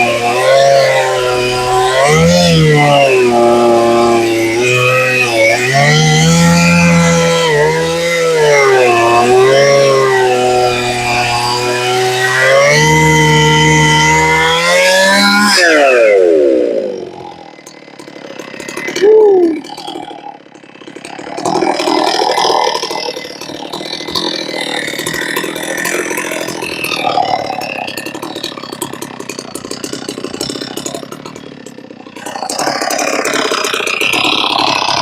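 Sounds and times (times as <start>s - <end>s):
chainsaw cutting through log: 0.0s - 35.0s.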